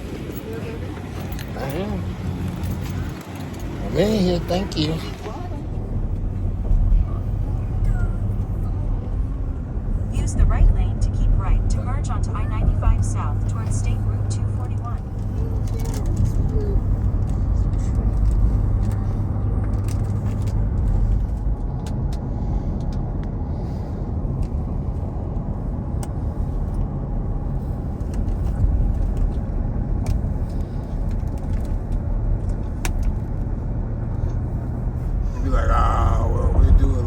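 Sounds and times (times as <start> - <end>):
car engine and tyres rumbling: 0.0 - 37.0.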